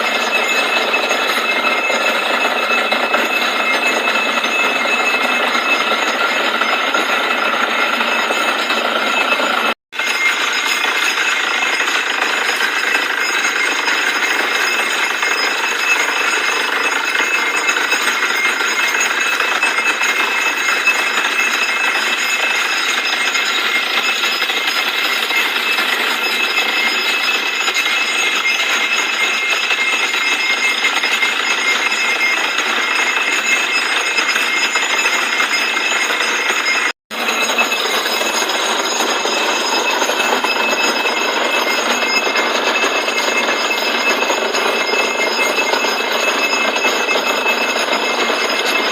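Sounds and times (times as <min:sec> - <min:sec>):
drilling rig running: 0:00.0 - 0:48.9.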